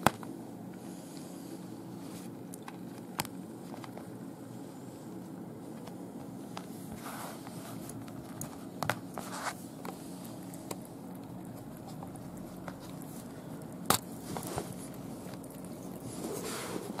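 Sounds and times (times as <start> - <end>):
cat chewing with wet crunches: 0.6 - 17.0.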